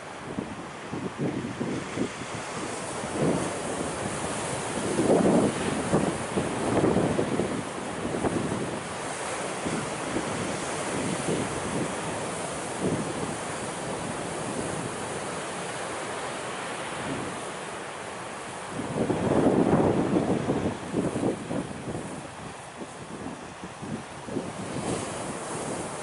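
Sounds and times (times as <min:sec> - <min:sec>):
wind blowing on microphone: 0:00.0 - 0:17.6, 0:18.4 - 0:26.0
surf washing on rocks: 0:00.0 - 0:26.0.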